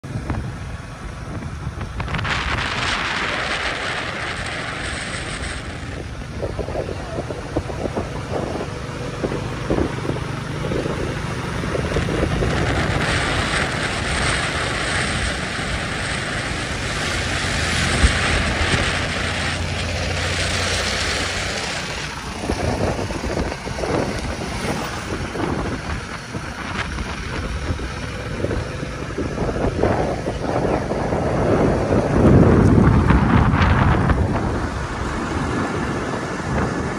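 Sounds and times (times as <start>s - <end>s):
motorcycle engine hum: 0.0s - 36.9s
wind buffeting microphone: 0.0s - 36.9s
road hiss: 0.7s - 36.9s.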